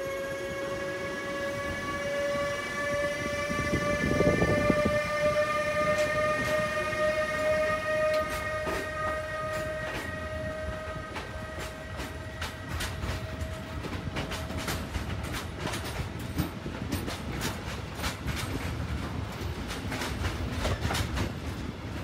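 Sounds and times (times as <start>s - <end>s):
electric locomotive whine: 0.0s - 22.0s
train rumble: 0.0s - 22.0s.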